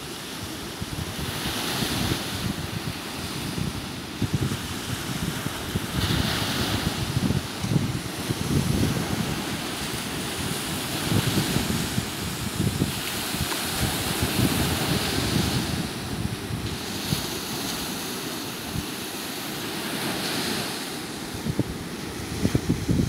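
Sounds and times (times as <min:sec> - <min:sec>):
waves washing up a beach: 0:00.0 - 0:23.0
wind buffeting microphone: 0:00.3 - 0:23.0.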